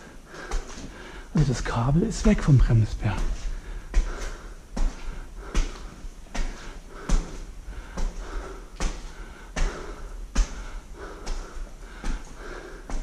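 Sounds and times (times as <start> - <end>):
footsteps crunching: 0.4 - 13.0.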